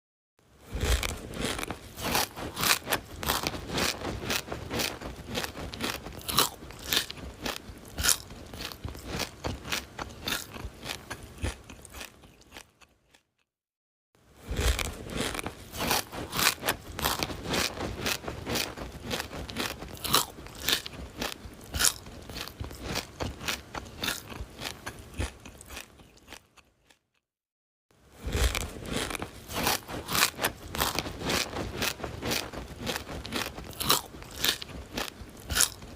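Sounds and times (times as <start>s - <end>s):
person chewing crunchy food: 0.6s - 13.5s, 14.4s - 27.3s, 28.1s - 35.9s.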